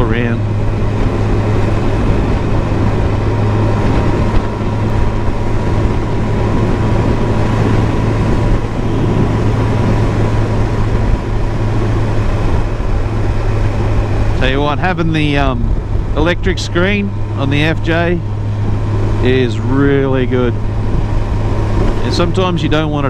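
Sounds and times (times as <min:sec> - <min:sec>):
motorcycle engine drone: 0:00.0 - 0:23.0
wind rush: 0:00.0 - 0:23.0.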